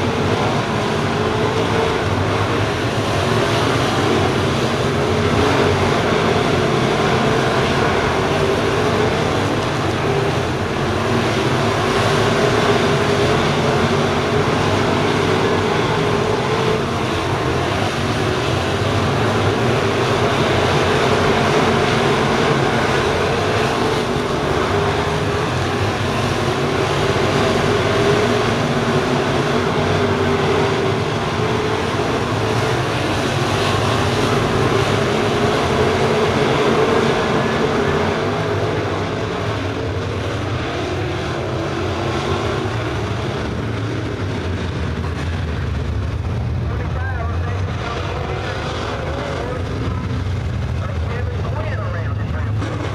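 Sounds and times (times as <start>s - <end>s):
race car engines running hard: 0.0s - 52.9s.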